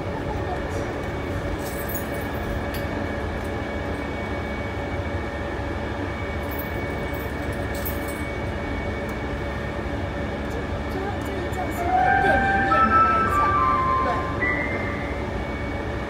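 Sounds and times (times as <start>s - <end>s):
constant whine: 0.1s - 16.0s.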